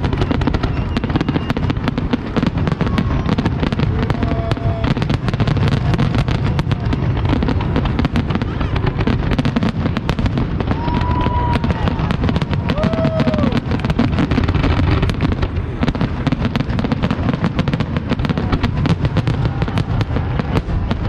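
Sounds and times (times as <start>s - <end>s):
firework whistling: 0.0s - 21.0s
fireworks bangs and crackles: 0.0s - 21.0s.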